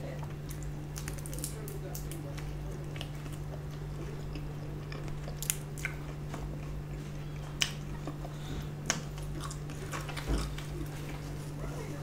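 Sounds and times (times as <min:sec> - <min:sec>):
close chewing: 0:00.2 - 0:12.0.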